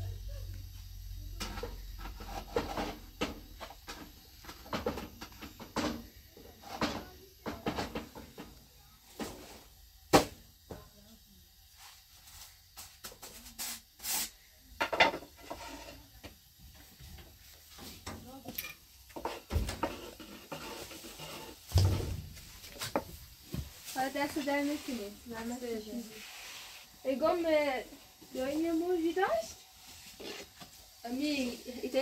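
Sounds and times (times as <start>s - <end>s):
dough turned on metal griddle: 0.7s - 11.1s, 11.7s - 32.0s.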